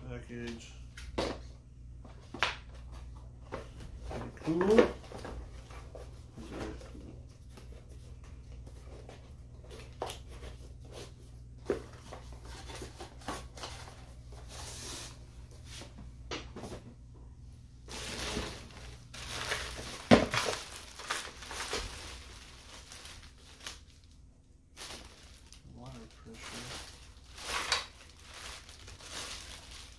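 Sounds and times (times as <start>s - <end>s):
plastic and cardboard crinkling: 2.1s - 15.9s, 17.9s - 29.9s.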